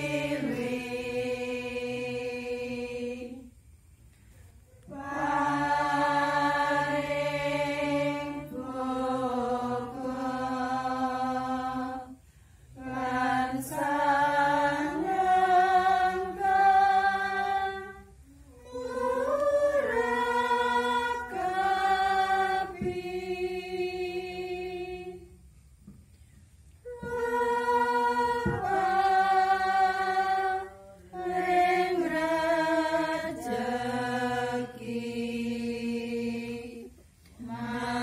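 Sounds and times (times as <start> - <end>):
voices chanting slow melody: 0.0 - 38.0.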